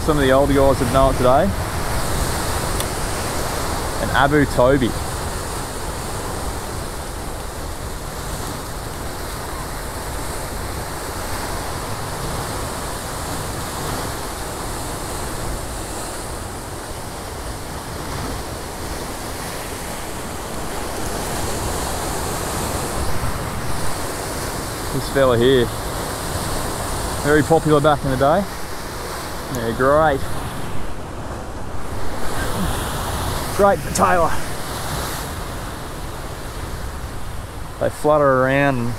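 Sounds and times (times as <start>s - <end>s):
ocean surf breaking on rocks: 0.0s - 38.9s.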